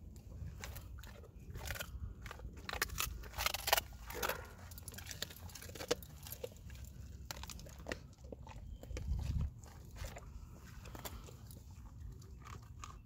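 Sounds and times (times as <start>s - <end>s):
dog crunching a treat: 0.0s - 13.0s.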